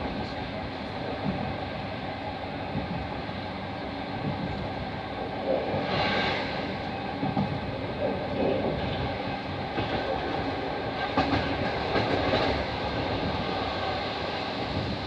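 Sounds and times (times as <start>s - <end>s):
train rushing: 0.0s - 15.0s
train wheels rumbling: 0.0s - 15.0s.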